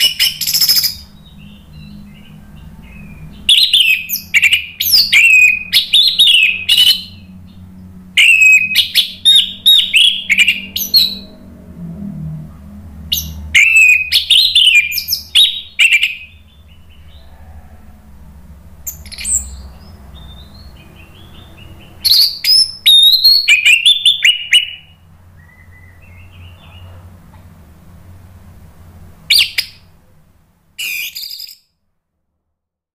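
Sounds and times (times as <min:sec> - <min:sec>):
thrush singing: 0:00.0 - 0:27.3
faint low hum: 0:00.0 - 0:32.6.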